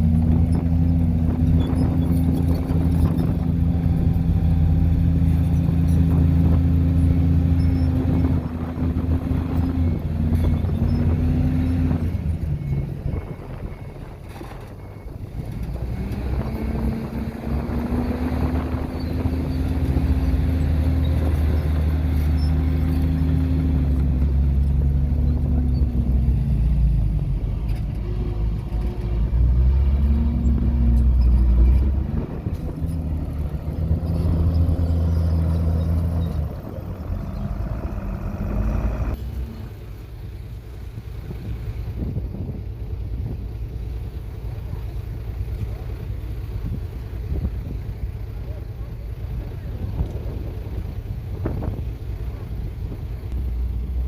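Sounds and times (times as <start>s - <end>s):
bulldozer diesel engine revving: 0.0s - 54.0s.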